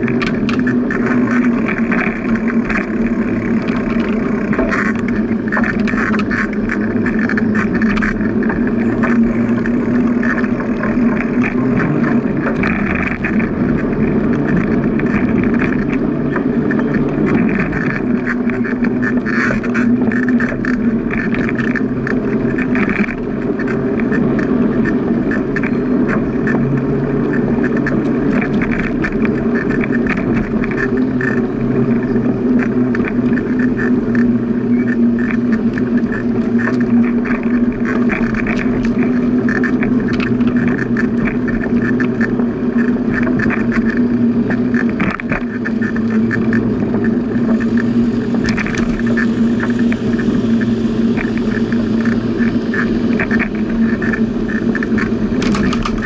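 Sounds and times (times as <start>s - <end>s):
ticks and knocks from bumps: 0.0s - 50.1s, 51.2s - 56.0s
bicycle tyres rolling on pavement: 0.0s - 56.0s.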